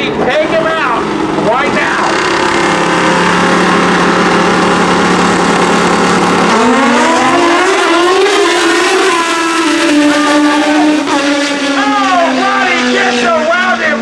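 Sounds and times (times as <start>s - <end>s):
drag bike engines accelerating: 0.0s - 14.0s.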